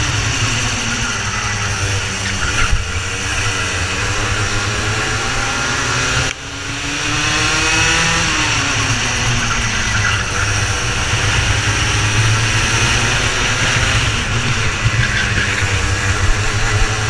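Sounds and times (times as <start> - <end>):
kart engine at high revs: 0.0 - 17.0.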